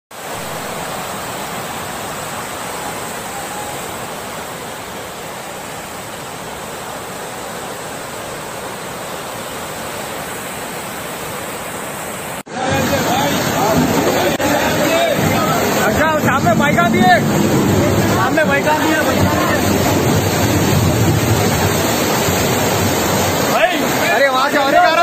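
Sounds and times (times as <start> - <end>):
water rushing across tiles: 0.1 - 25.0.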